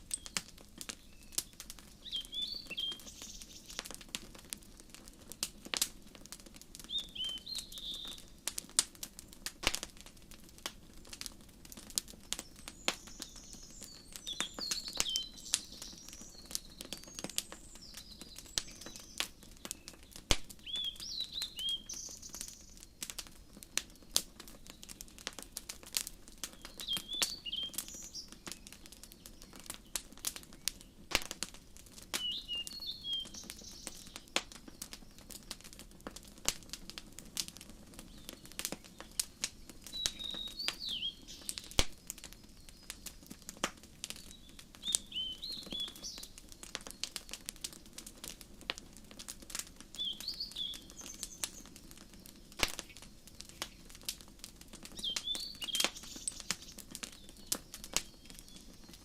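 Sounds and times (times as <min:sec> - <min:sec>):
small birds chirping: 0:00.0 - 0:36.8, 0:37.4 - 0:59.0
wood fire crackling and popping: 0:00.0 - 0:59.0.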